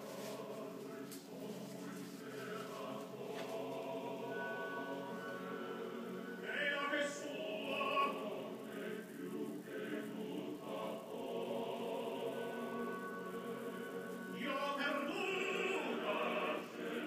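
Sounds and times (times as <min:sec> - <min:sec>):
choir singing sustained notes: 0:00.0 - 0:17.0.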